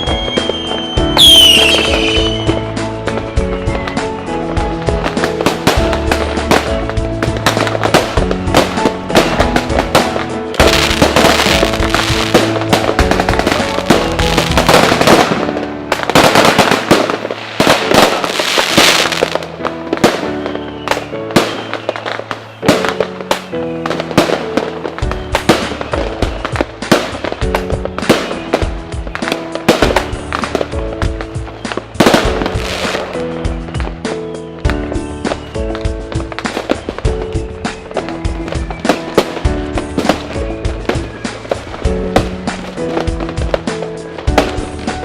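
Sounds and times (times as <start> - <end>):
fireworks banging and crackling: 0.0 - 45.0
music: 0.0 - 45.0.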